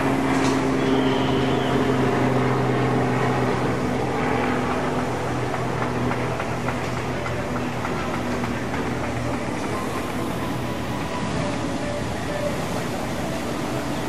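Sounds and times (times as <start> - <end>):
outdoor rumble: 0.0 - 14.0.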